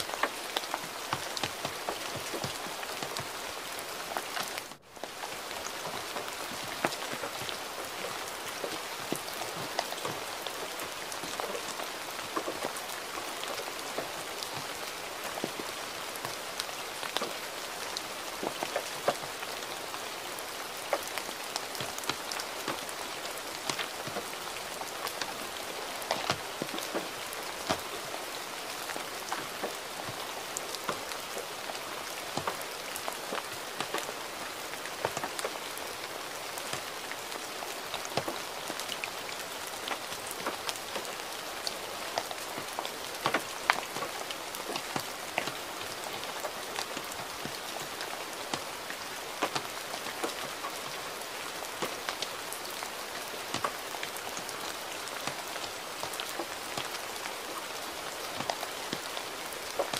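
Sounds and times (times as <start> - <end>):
rain hissing: 0.0 - 59.9
raindrops tapping: 0.0 - 59.9.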